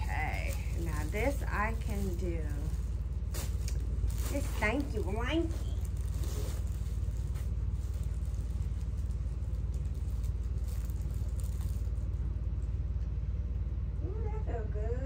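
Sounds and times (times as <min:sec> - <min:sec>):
faint rustling: 0:00.0 - 0:12.3
low rumble: 0:00.0 - 0:15.0.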